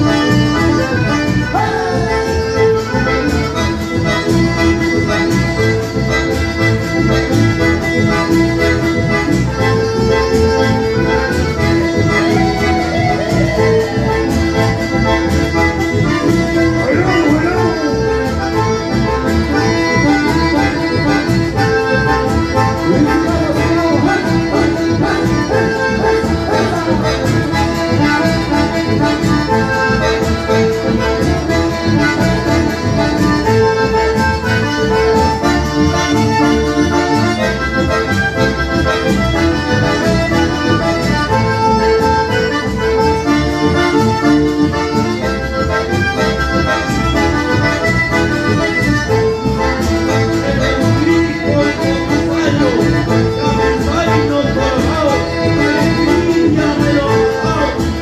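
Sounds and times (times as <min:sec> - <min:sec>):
live band with accordion: 0:00.0 - 0:58.0.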